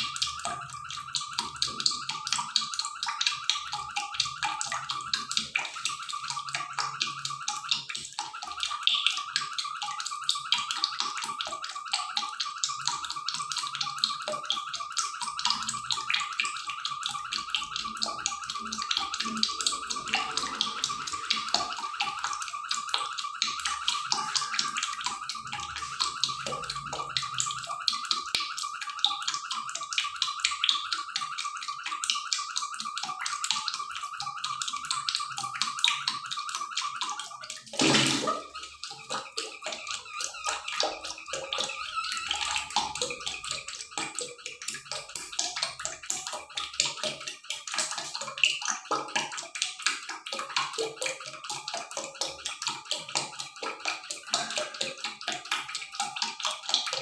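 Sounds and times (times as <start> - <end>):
coconut milk bubbling in a pan: 0.0 - 57.0.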